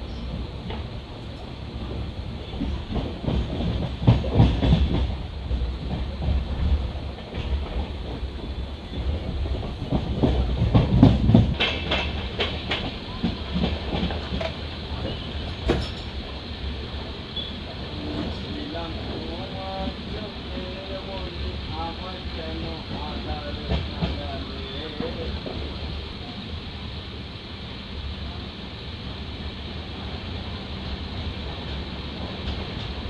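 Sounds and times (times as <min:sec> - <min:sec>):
wheels clickety-clack over rail joints: 0:00.0 - 0:26.0, 0:30.8 - 0:33.0
train wheels rumbling on rail: 0:00.0 - 0:33.0.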